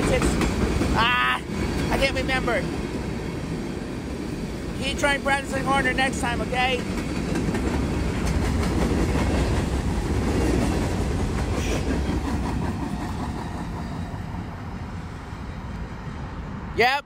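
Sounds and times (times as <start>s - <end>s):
freight train wheels rumbling on rails: 0.0s - 16.6s.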